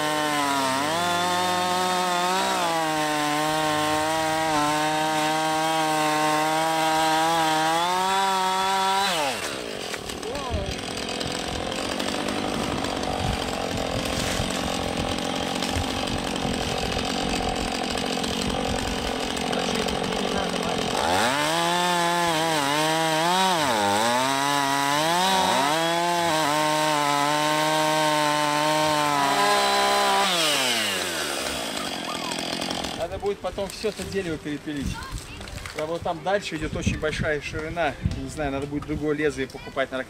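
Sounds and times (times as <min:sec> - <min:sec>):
chainsaw cutting log: 0:00.0 - 0:39.7.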